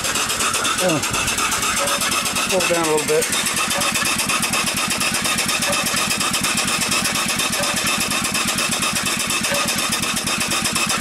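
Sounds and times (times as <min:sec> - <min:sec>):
steam engine exhaust chuffs: 0:00.0 - 0:11.0.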